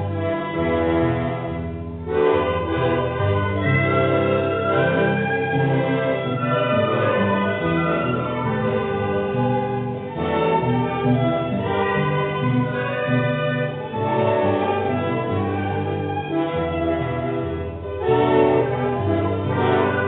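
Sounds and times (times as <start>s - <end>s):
accordion: 0.0s - 20.0s
violin: 0.0s - 20.0s.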